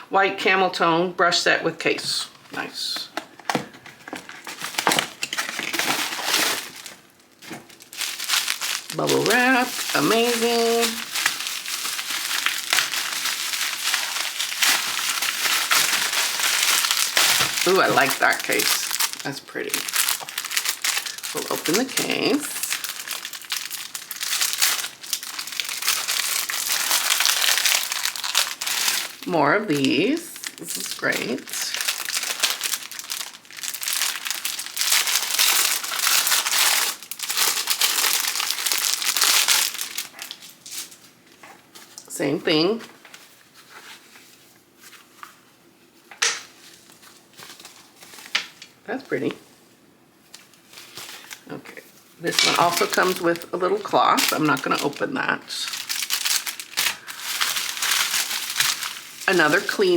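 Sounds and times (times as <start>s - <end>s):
plastic packaging crinkling: 2.5s - 42.1s, 42.7s - 49.5s, 50.2s - 59.9s.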